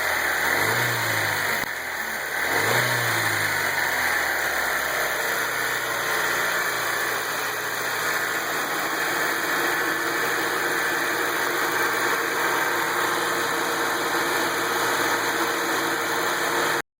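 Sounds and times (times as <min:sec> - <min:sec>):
car engine idling: 0:00.0 - 0:16.8.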